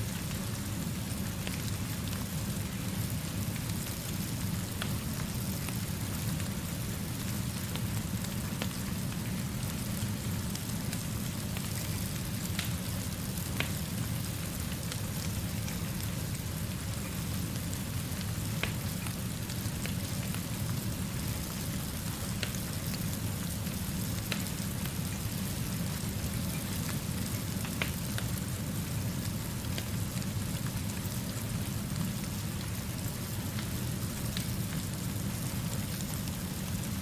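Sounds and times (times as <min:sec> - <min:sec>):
steady rainfall: 0:00.0 - 0:37.0
wood fire crackling: 0:00.0 - 0:37.0.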